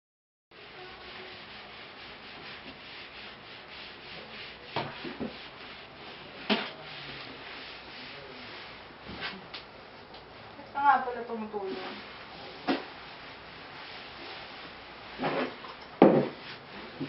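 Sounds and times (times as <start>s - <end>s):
cloth scrubbing wooden floor: 0.6s - 9.5s, 10.4s - 17.0s.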